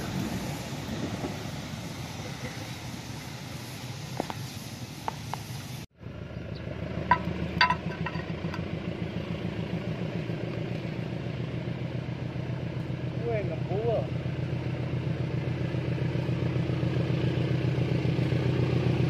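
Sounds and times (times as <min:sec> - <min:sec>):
diesel locomotive engine throbbing: 0:00.0 - 0:19.0.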